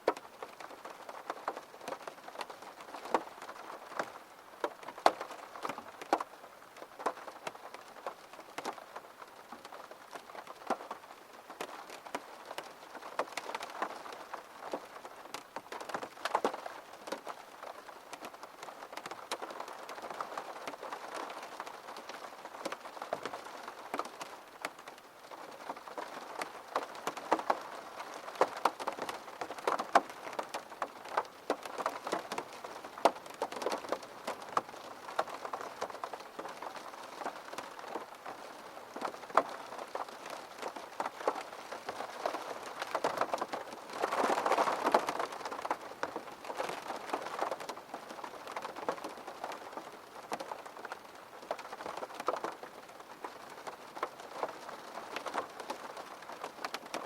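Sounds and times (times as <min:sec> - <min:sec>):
gentle rain: 0:00.0 - 0:57.0
raindrops tapping a surface: 0:00.0 - 0:57.0.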